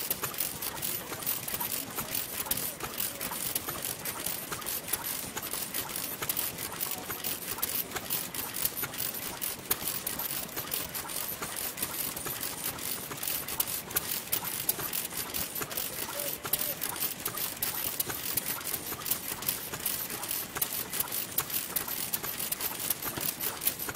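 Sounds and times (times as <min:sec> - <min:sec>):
old stationary engines clattering: 0:00.0 - 0:23.9.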